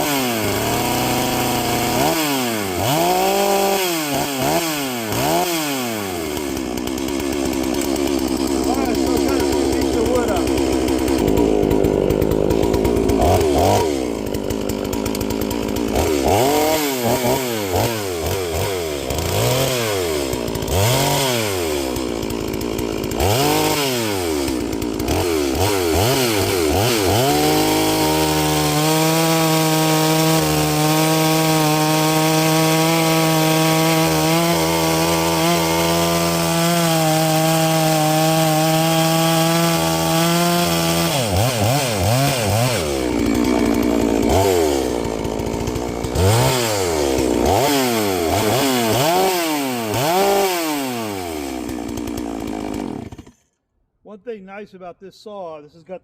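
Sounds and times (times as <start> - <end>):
chainsaw revving and cutting log: 0.0 - 53.6.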